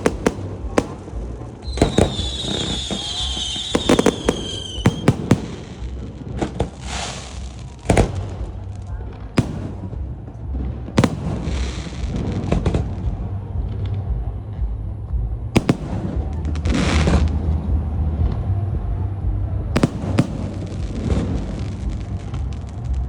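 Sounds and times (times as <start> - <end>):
fireworks hissing and crackling: 0.0 - 13.8, 15.6 - 17.4, 19.8 - 23.0
low rumble: 0.0 - 23.0.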